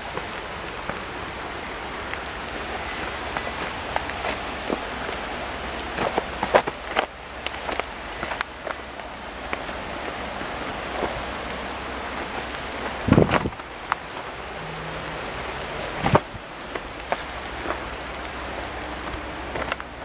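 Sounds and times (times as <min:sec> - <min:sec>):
raindrops ticking: 0:00.0 - 0:20.0
steady rain falling: 0:00.0 - 0:20.0.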